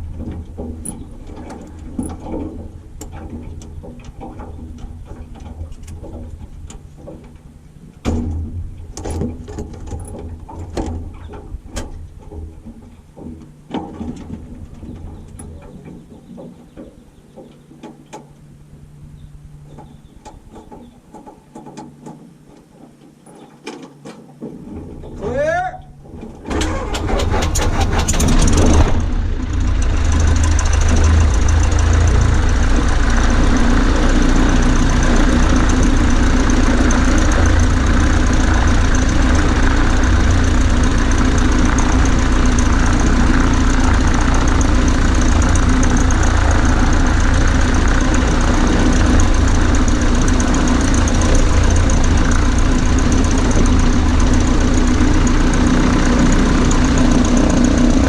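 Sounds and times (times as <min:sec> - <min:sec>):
propeller plane engine running: 0:00.0 - 0:22.8, 0:26.0 - 0:58.0.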